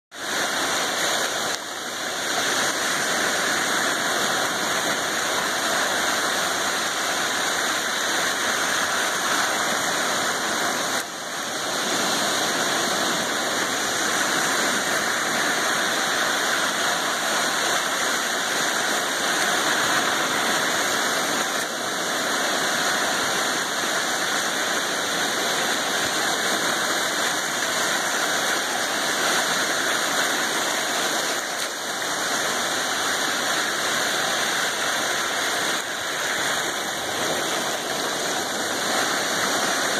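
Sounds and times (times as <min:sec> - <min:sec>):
gentle waves washing in: 0:00.1 - 0:39.9.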